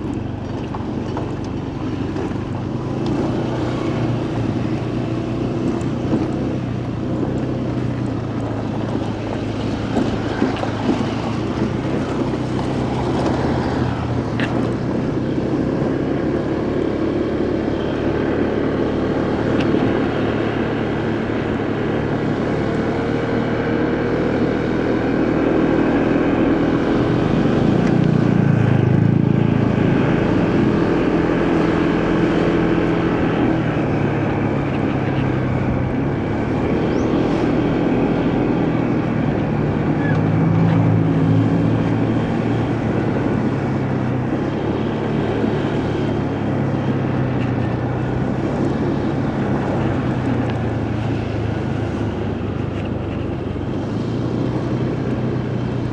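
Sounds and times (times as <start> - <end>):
motorcycle engine running: 0.0 - 55.9
road and wind noise: 0.0 - 55.9.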